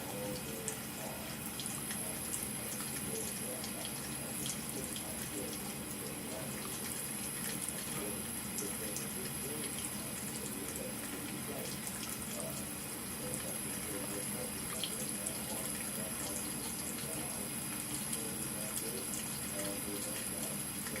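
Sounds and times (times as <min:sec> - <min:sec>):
faucet water running into sink: 0:00.0 - 0:21.0.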